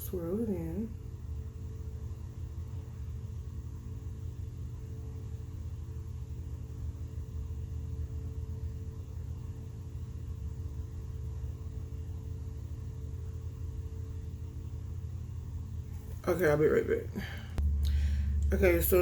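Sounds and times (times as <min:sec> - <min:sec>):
low hum with rumble: 0:00.0 - 0:19.0.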